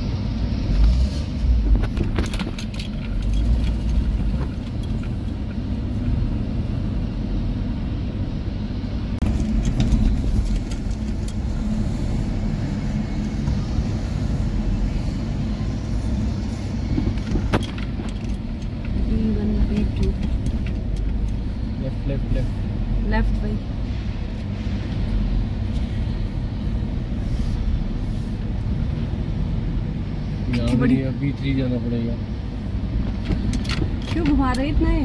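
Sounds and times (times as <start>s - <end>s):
engine and tyre rumble in car: 0.0s - 35.0s.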